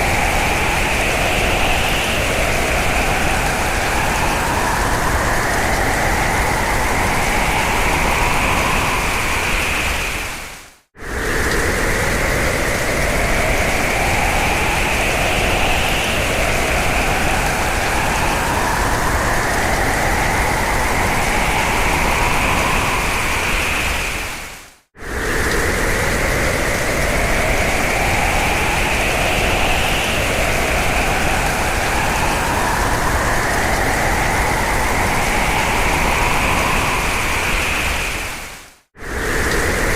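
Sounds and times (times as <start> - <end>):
howling hurricane wind: 0.0 - 39.9.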